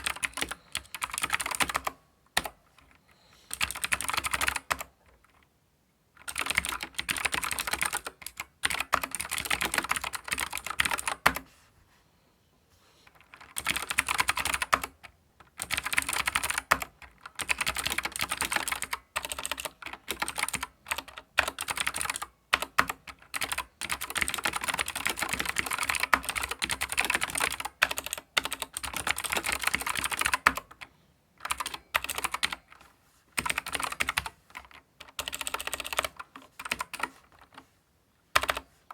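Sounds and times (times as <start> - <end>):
clicky mechanical keyboard typing: 0.0 - 5.5, 6.2 - 11.4, 13.1 - 37.6, 38.3 - 38.6.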